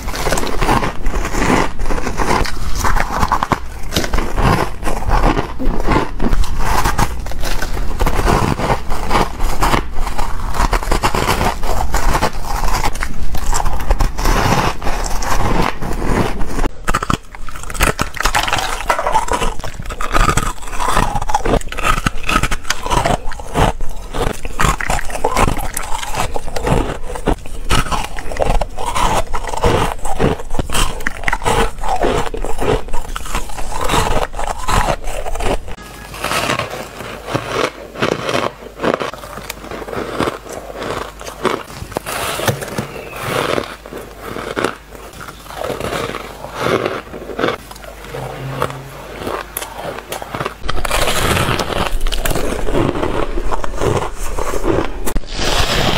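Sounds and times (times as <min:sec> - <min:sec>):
chewing crushed ice: 0:00.0 - 0:55.9.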